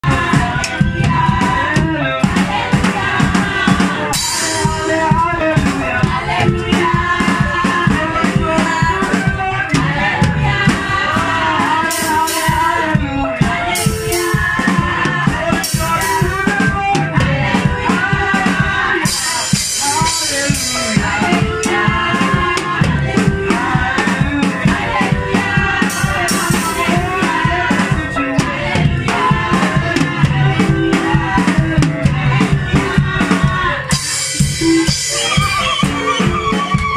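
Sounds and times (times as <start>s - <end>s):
drum kit playing: 0.0s - 36.9s.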